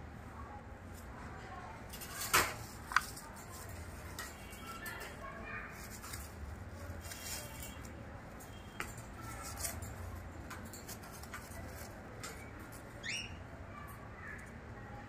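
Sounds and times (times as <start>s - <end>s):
caged birds chirping: 1.8s - 15.0s.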